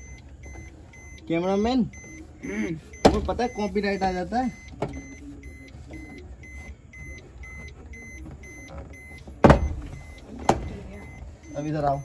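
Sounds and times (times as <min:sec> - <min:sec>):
car warning chime beeping: 0:00.0 - 0:12.0.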